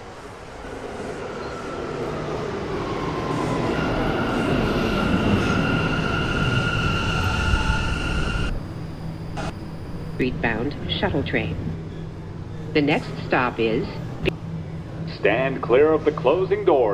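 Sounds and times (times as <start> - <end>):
subway train rumbling on rails: 0.0 - 16.9.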